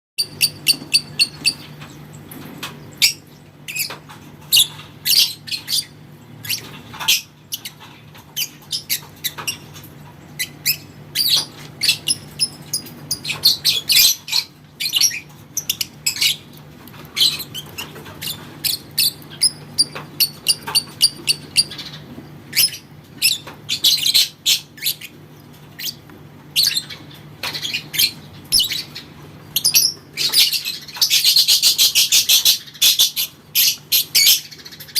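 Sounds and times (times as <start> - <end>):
lovebird chirps and squawks: 0.2 - 1.7, 3.0 - 7.8, 10.4 - 25.2, 26.6 - 29.0, 29.6 - 34.9.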